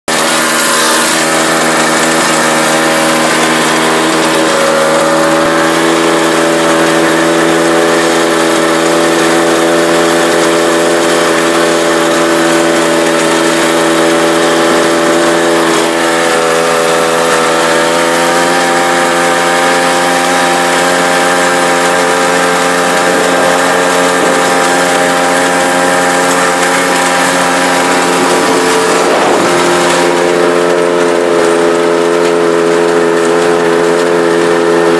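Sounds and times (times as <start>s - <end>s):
snowmobile engine running: 0.0s - 34.9s.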